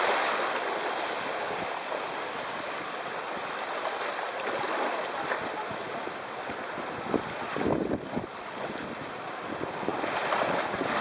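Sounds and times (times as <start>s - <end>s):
water rushing down waterslide: 0.0s - 11.0s.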